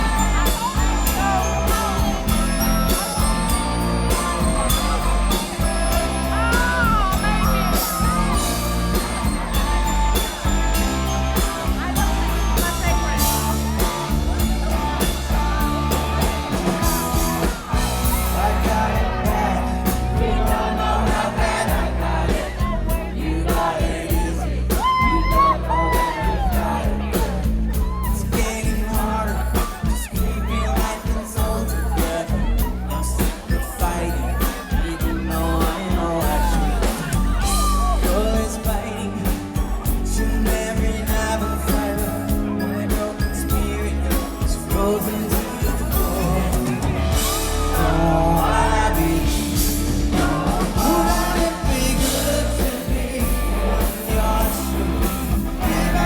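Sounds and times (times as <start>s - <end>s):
bass line: 0.0s - 56.0s
drum beat: 0.0s - 56.0s
lead vocal melody: 0.0s - 56.0s
live band playing pop-rock: 0.0s - 56.0s.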